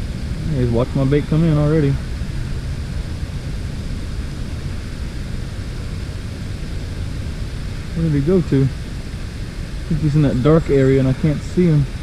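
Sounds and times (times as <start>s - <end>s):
faint hiss: 0.0s - 12.0s
steady low rumble: 0.0s - 12.0s.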